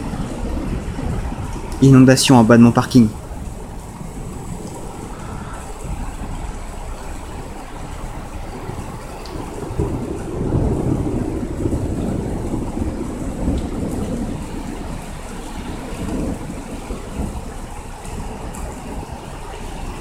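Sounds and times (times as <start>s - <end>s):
steady rain: 0.0s - 20.0s
thunder rumbling: 0.0s - 20.0s.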